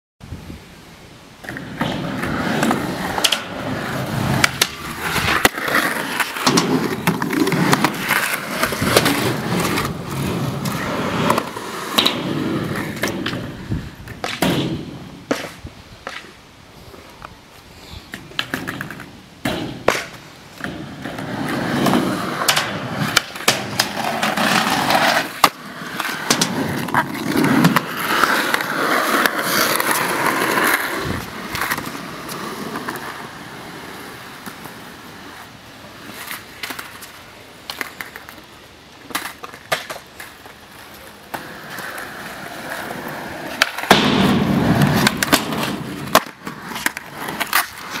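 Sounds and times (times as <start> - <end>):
skateboard wheels rolling on concrete: 0.2 - 48.0
skateboard clacking on surface: 1.4 - 3.7, 4.3 - 10.0, 10.6 - 16.4, 18.1 - 33.1, 36.0 - 48.0.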